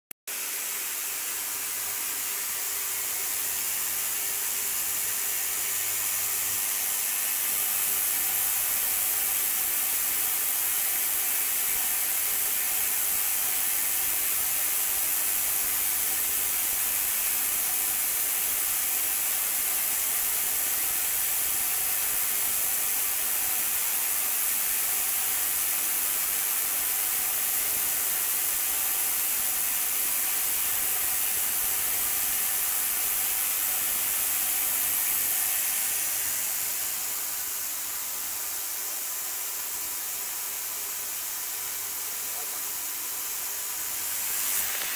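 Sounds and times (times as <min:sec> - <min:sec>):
high hiss of cavitation in water: 0:00.4 - 0:44.9.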